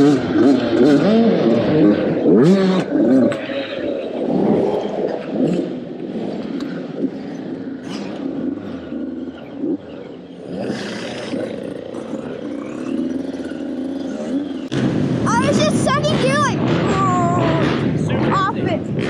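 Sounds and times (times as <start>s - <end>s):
dirt bike engine revving: 0.0s - 19.0s
other dirt bike engines: 0.0s - 19.0s.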